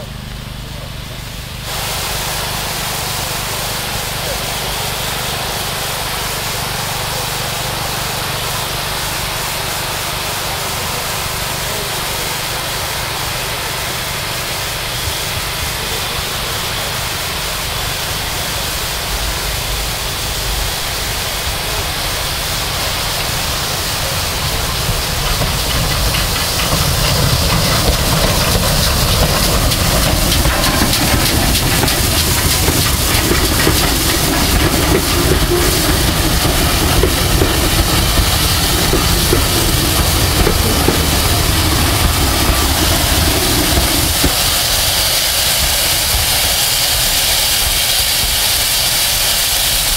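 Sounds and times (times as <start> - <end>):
steam locomotive hissing: 0.0 - 49.9.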